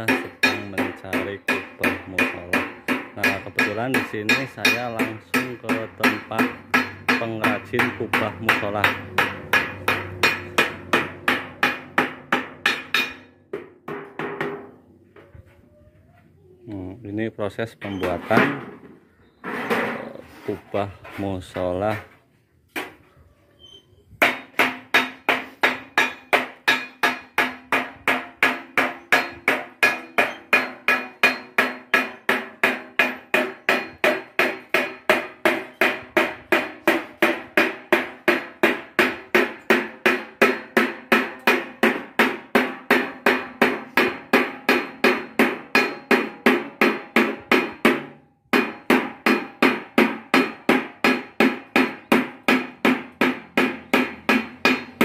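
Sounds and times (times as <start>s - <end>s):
hammer striking sheet metal: 0.0s - 14.8s, 24.2s - 55.0s.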